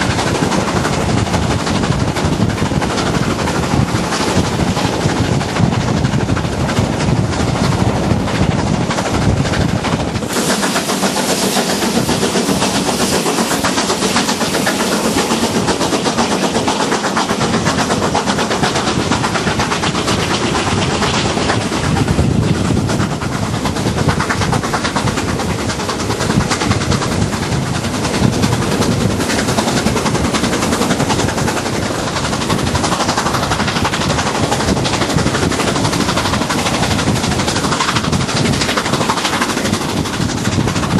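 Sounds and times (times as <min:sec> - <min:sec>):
rush of moving train: 0:00.0 - 0:40.9
steam locomotive exhaust beats: 0:00.0 - 0:40.9.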